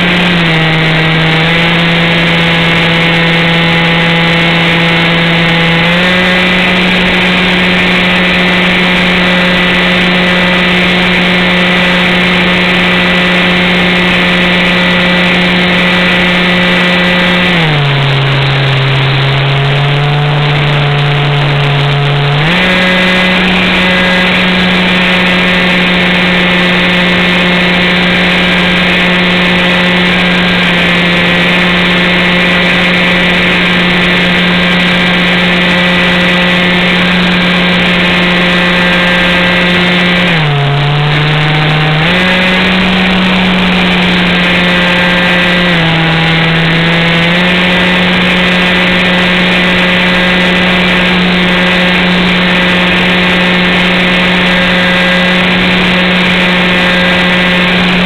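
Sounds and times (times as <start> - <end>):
model plane motor droning: 0.0 - 58.0.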